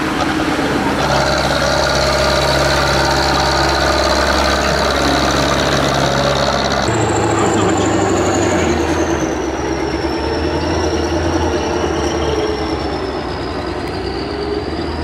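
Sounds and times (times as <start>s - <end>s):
heavy diesel tractor engine: 0.0s - 15.0s
high engine whine: 0.0s - 15.0s.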